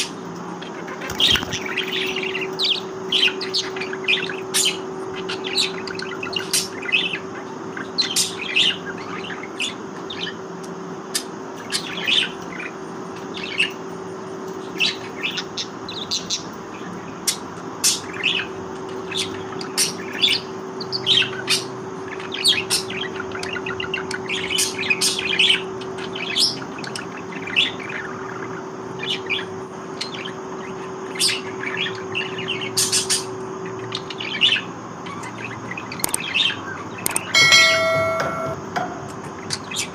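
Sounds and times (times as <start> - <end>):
budgerigars chirping: 0.0 - 10.4, 11.1 - 13.8, 14.6 - 38.1.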